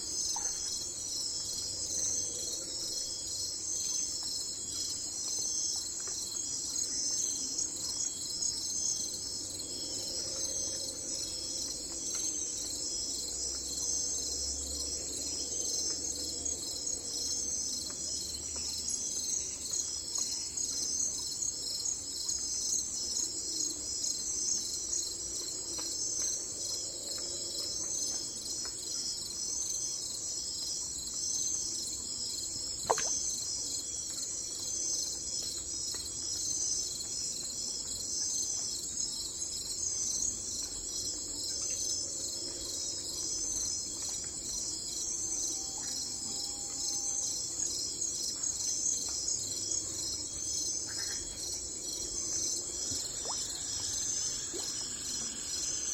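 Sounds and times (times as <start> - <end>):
insect chorus trilling: 0.0 - 55.9.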